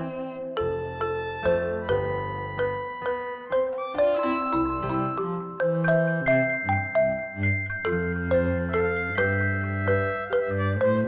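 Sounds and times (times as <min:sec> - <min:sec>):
bell-like notes: 0:00.0 - 0:11.0.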